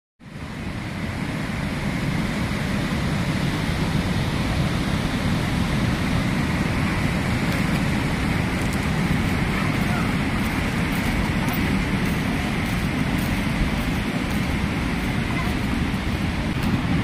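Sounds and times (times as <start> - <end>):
waterfall roaring: 0.2 - 17.0.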